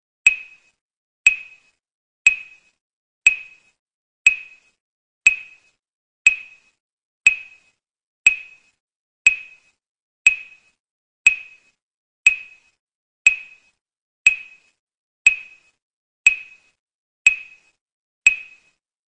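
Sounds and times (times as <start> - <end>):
metronome tick with ringing tone: 0.2 - 18.8.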